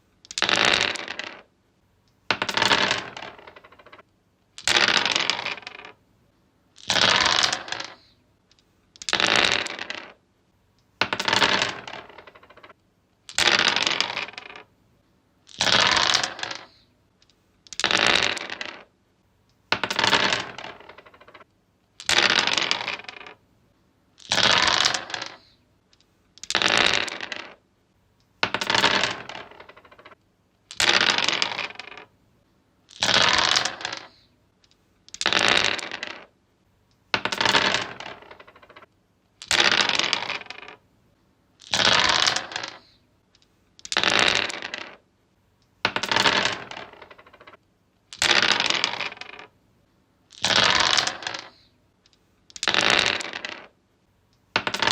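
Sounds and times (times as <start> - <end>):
dice rattling on wood: 0.2 - 1.5, 2.3 - 4.0, 4.6 - 6.0, 6.8 - 10.2, 11.0 - 14.7, 15.5 - 18.9, 19.7 - 21.4, 22.0 - 23.4, 24.2 - 27.6, 28.4 - 32.1, 32.9 - 36.3, 37.0 - 40.8, 41.6 - 45.0, 45.8 - 49.6, 50.3 - 53.8, 54.4 - 54.9.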